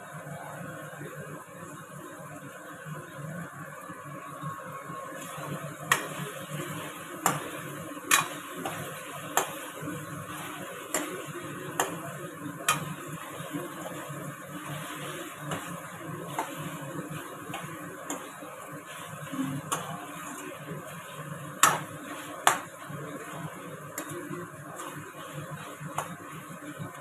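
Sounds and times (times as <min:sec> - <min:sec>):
steady sizzle: 0:00.0 - 0:27.0.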